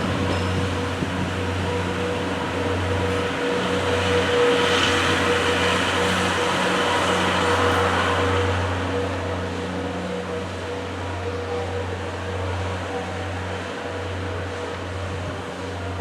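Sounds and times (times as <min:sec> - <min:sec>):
stopped train humming: 0:00.0 - 0:16.0.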